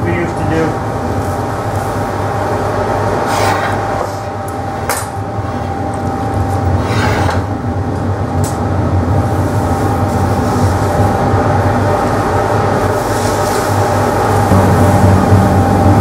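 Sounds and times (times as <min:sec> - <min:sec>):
steady loud roar and hum: 0:00.0 - 0:16.0.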